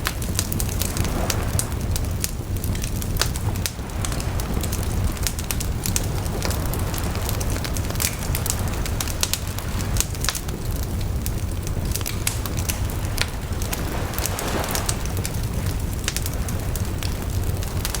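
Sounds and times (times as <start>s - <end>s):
campfire crackling and popping: 0.0s - 18.0s
sea waves rushing: 0.0s - 18.0s.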